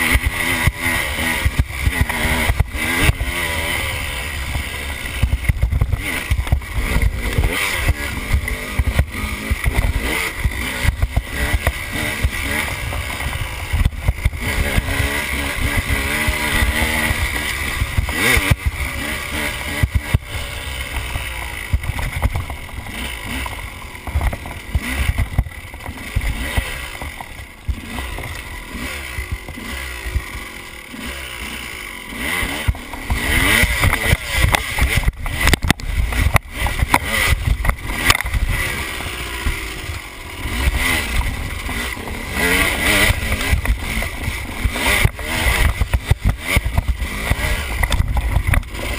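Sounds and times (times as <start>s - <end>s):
bike knocks and rattles: 0.0s - 48.9s
dirt bike engine revving: 0.0s - 48.9s.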